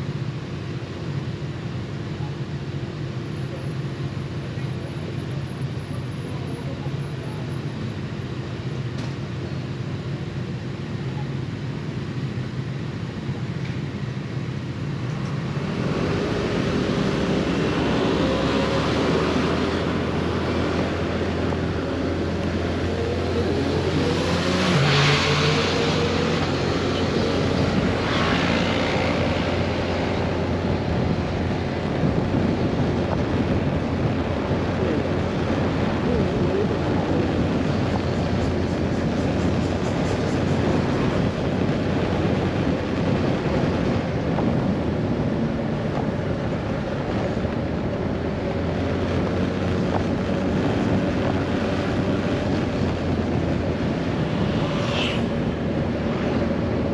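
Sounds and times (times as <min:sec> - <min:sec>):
road and wind noise: 0:00.0 - 0:56.9.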